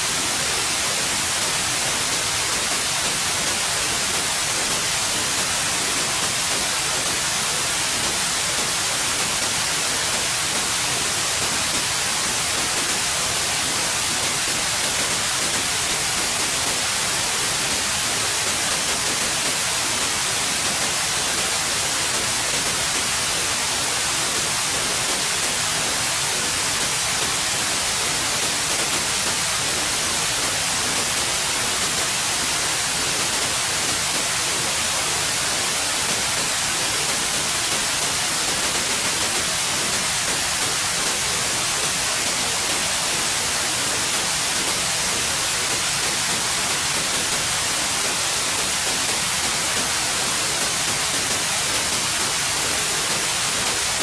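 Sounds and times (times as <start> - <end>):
steady white noise hiss: 0.0 - 54.0.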